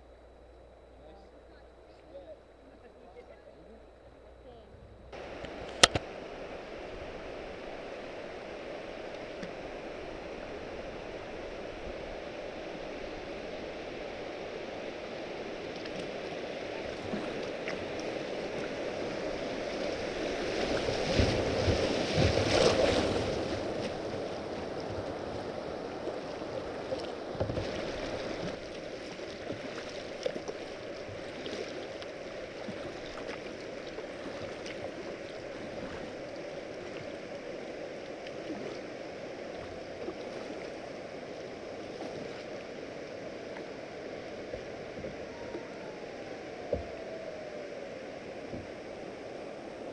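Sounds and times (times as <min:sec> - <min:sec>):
river water rushing: 0:05.2 - 0:49.9
water churning and splashing: 0:06.5 - 0:49.9.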